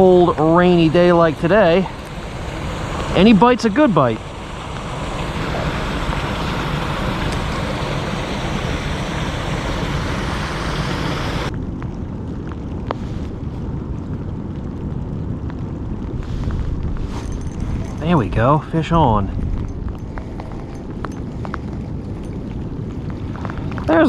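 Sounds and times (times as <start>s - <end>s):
heavy rain hiss: 0.0s - 11.5s, 12.8s - 22.0s, 23.0s - 24.0s
wind buffeting microphone: 0.0s - 24.0s.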